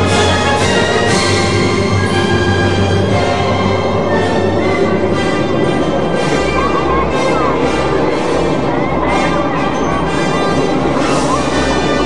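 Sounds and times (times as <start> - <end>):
orchestral music with held chords: 0.0 - 12.0.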